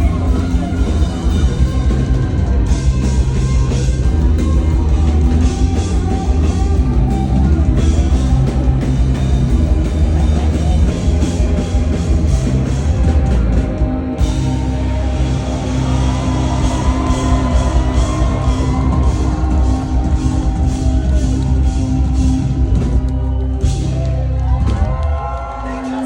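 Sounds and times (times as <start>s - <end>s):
drum kit: 0.0s - 26.0s
loud rock music: 0.0s - 26.0s.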